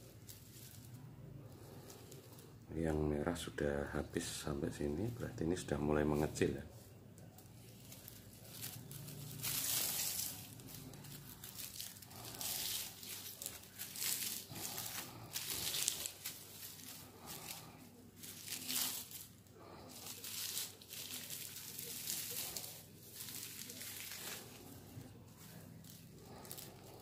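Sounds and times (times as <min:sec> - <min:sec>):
dry fibre crinkling and rustling: 0:00.0 - 0:27.0.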